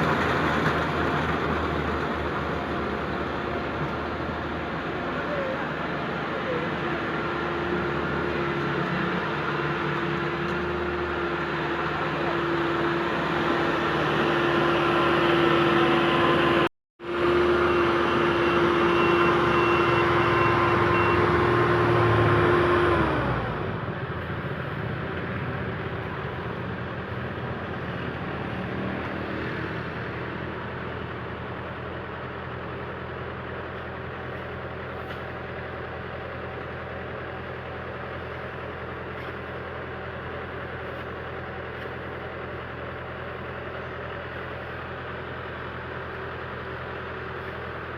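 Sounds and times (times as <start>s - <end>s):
combine harvester engine whining: 0.0s - 47.9s.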